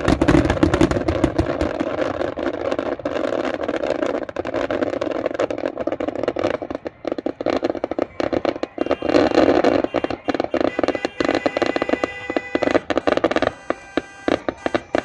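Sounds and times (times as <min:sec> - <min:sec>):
fireworks crackling pops: 0:00.0 - 0:15.0.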